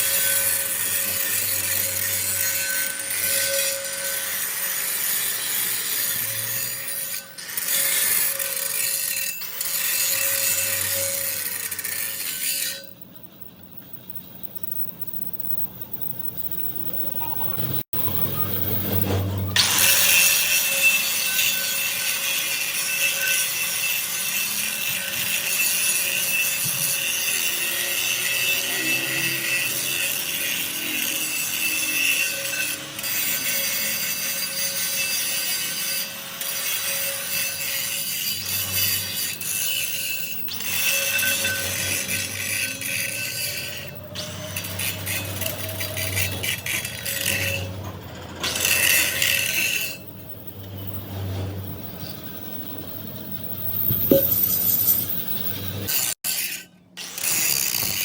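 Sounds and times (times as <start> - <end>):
harsh scraping on metal: 0.0 - 58.0.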